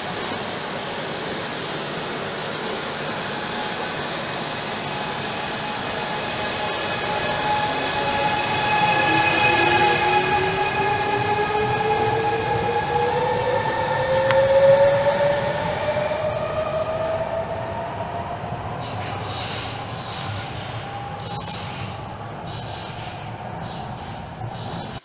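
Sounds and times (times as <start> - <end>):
rumble of train wheels: 0.0 - 25.0.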